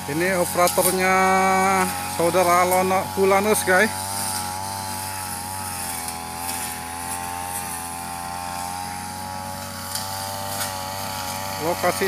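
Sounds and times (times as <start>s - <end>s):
brush cutter engine running: 0.0s - 12.0s.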